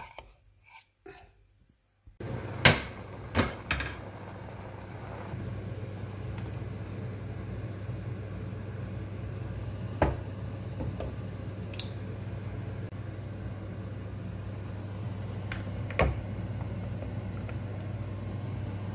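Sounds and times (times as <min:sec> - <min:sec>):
steady low hum: 0:02.2 - 0:18.9.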